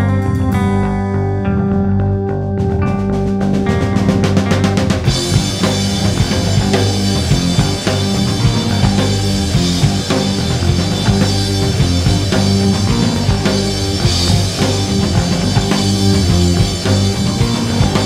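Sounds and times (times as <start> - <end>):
electric bass: 0.0 - 18.0
electric guitar: 0.0 - 18.0
drum kit steady beat: 3.2 - 18.0.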